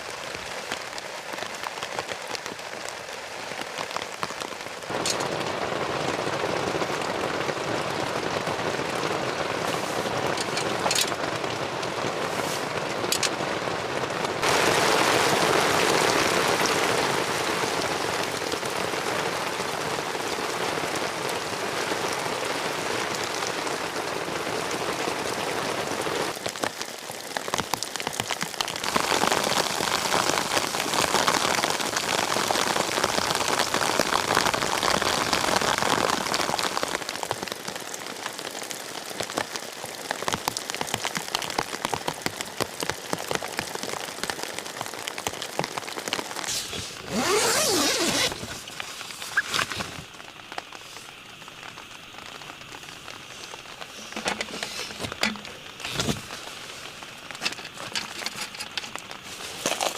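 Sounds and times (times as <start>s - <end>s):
steady rain with ticking drops: 0.0s - 59.9s.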